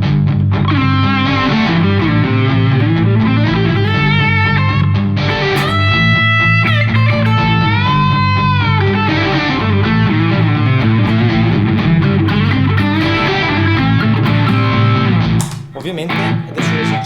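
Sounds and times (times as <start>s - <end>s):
electric guitar lead with overdrive: 0.0s - 17.0s
looped rhythm guitar: 0.0s - 17.0s.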